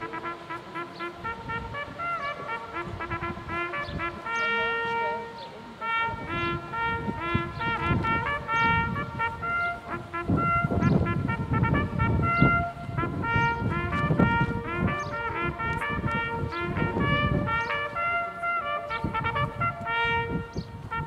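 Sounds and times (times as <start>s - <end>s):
hunting horn melody: 0.0s - 21.0s.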